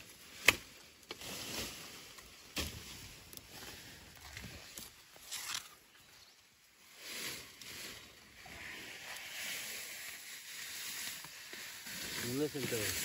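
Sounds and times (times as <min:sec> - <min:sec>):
shrub leaves rustling: 0:00.0 - 0:13.0.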